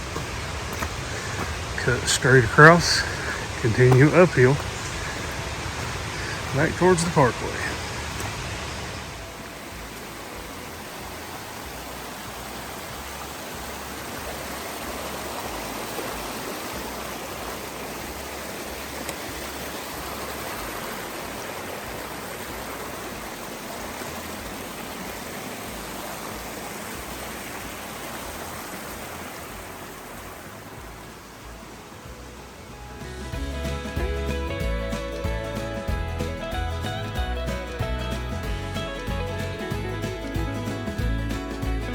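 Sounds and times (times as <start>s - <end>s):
creek rushing over rocks: 0.0s - 41.9s.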